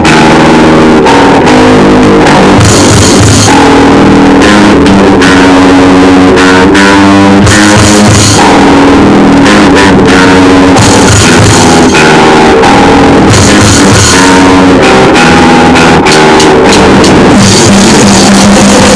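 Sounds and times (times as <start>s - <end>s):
loud punk music: 0.0s - 18.9s.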